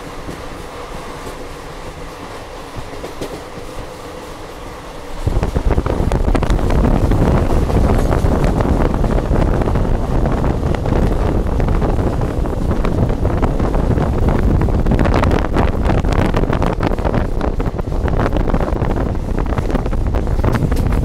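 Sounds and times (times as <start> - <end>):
train running rumble and rattle: 0.0 - 21.0
wind buffeting microphone: 0.0 - 21.0.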